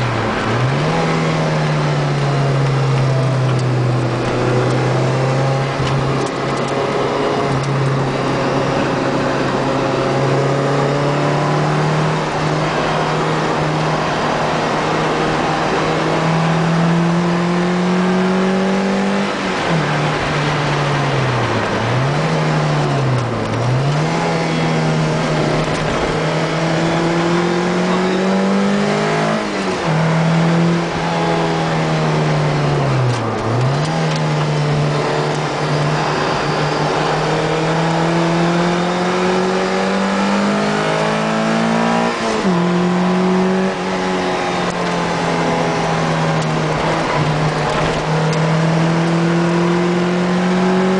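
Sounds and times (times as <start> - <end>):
racing car engine accelerating: 0.0 - 50.9.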